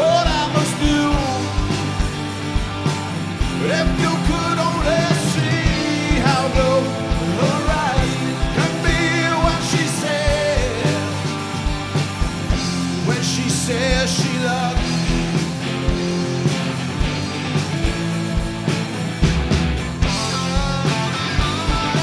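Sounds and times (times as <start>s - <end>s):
drum kit beat: 0.0s - 22.0s
live rock band playing: 0.0s - 22.0s.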